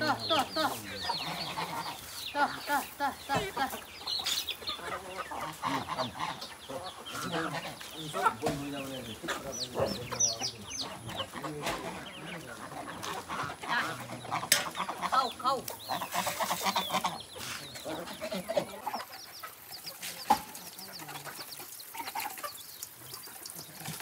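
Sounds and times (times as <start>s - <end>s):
geese pecking at metal bowl: 0.0s - 24.0s
poultry calling: 0.0s - 24.0s.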